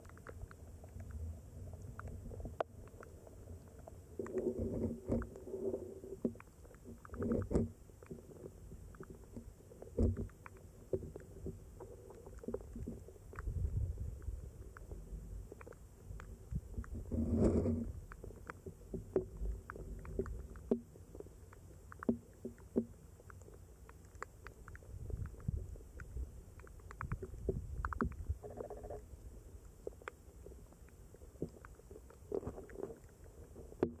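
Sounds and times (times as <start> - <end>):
muffled underwater water rumble: 0.0 - 21.4, 24.8 - 34.0
sharp underwater clicks: 0.0 - 34.0.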